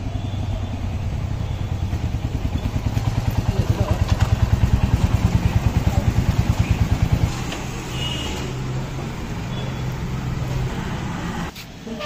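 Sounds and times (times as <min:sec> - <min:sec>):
engine hum: 0:00.0 - 0:11.6.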